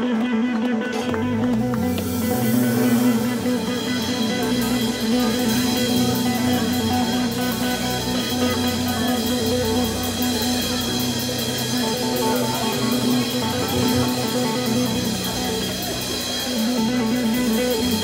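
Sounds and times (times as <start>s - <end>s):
live blues band playing: 0.1s - 18.0s
regular cymbal beat: 1.7s - 18.0s.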